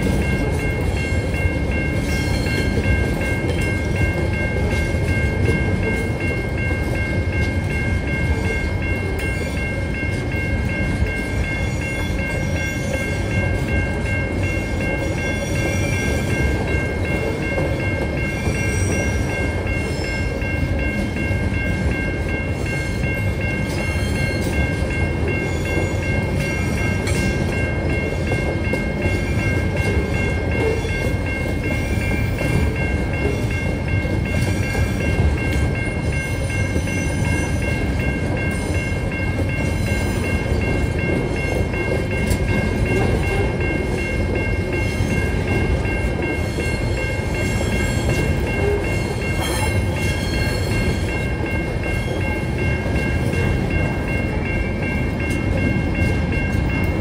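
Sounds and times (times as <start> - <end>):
level crossing bell ringing: 0.0 - 57.0
train wheels rumbling on rails: 0.0 - 57.0.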